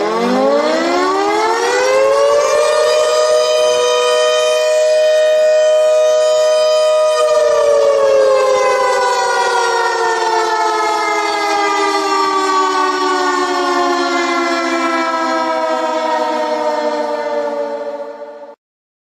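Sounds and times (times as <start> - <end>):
warning siren winding down: 0.0 - 18.6.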